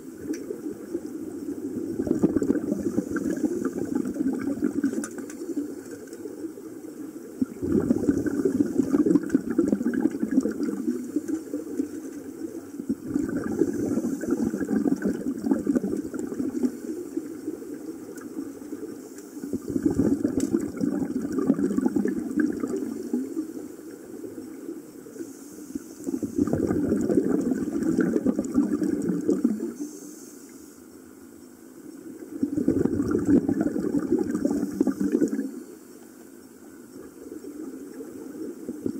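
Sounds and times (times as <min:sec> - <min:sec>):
underwater exhaust bubbling: 0:00.0 - 0:30.0, 0:32.1 - 0:35.8, 0:36.7 - 0:38.9.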